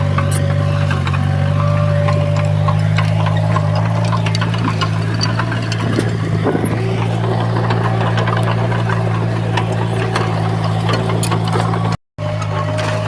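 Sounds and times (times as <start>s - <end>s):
diesel engine running: 0.0s - 13.0s
metal clanks and clicks: 0.0s - 13.0s.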